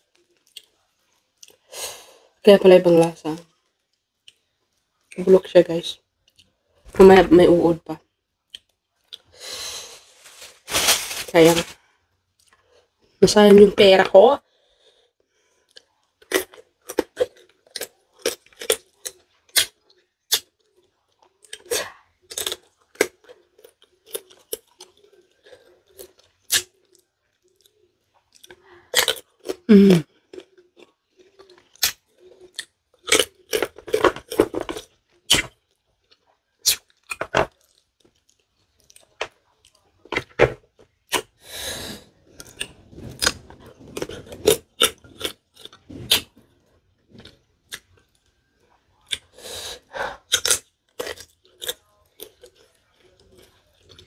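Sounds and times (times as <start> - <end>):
crunching and chewing: 0.0 - 1.7, 6.1 - 6.9, 8.4 - 13.2, 14.7 - 41.4, 42.1 - 49.4, 50.1 - 54.0.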